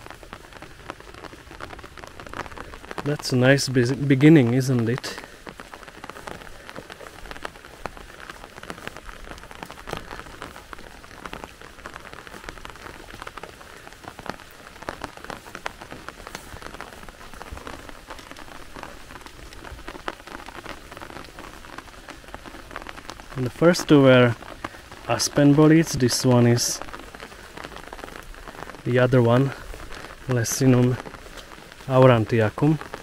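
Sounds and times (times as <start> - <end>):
rain on grass and leaves: 0.0 - 33.0.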